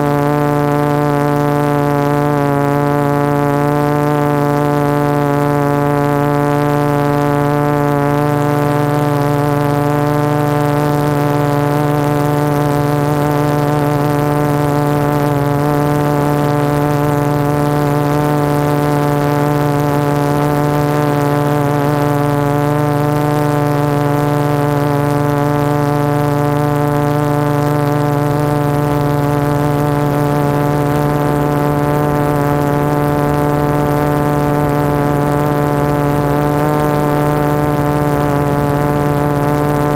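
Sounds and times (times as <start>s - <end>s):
drone motors humming: 0.0s - 39.9s.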